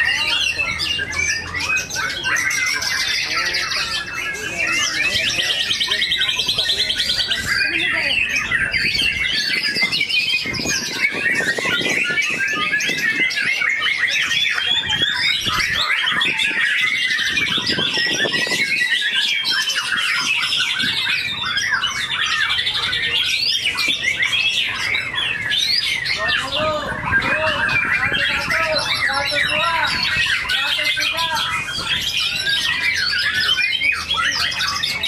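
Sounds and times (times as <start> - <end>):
many birds singing: 0.0 - 35.0.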